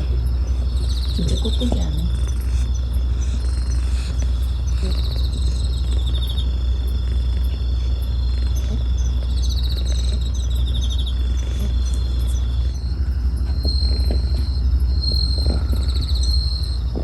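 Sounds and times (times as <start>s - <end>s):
crickets chirping: 0.0s - 17.0s
low steady rumble: 0.0s - 17.0s
pulsed insect trill: 0.0s - 17.0s.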